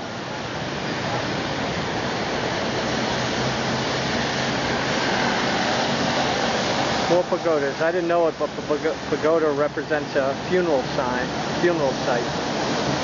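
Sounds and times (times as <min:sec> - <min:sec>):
city road traffic roar: 0:00.0 - 0:13.0.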